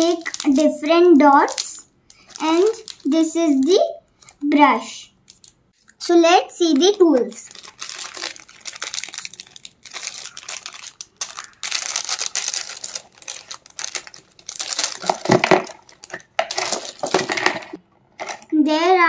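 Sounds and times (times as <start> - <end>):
plastic bag crinkling: 0.0 - 4.4, 5.2 - 6.0, 6.6 - 18.5.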